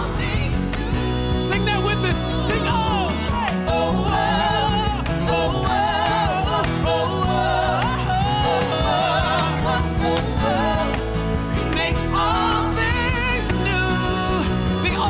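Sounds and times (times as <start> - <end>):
acoustic guitars: 0.0 - 15.0
keyboard: 0.0 - 15.0
voices singing: 0.0 - 15.0.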